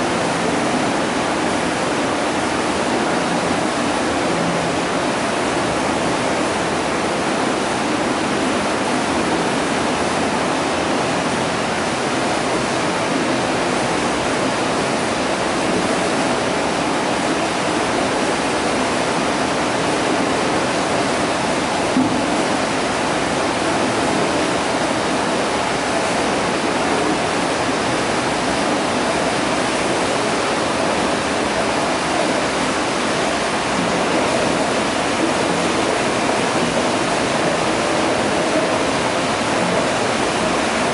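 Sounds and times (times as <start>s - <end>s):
turbulent water rushing: 0.0s - 40.9s.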